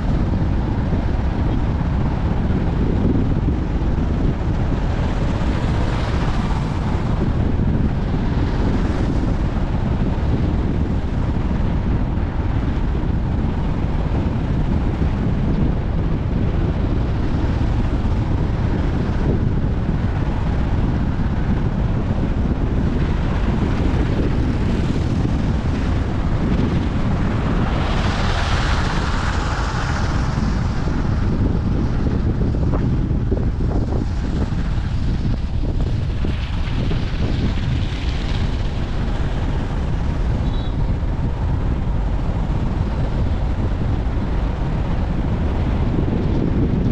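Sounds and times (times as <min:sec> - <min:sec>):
vehicle road rumble: 0:00.0 - 0:46.9
wind buffeting microphone: 0:00.0 - 0:46.9.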